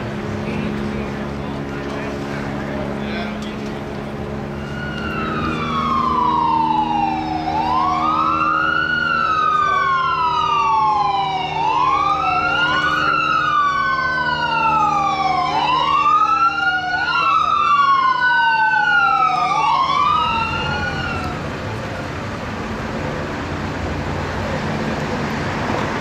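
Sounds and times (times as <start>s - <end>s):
sirens wailing: 0.0s - 26.0s.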